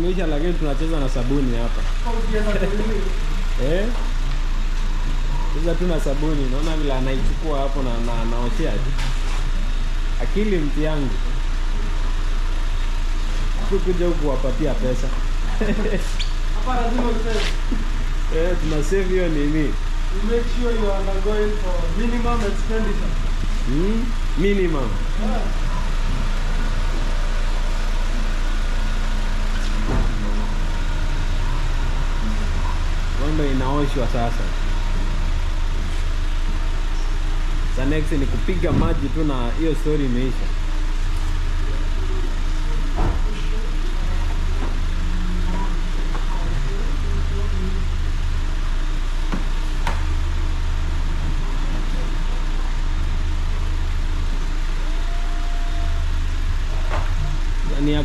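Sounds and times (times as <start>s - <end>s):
motor droning: 0.0s - 58.0s.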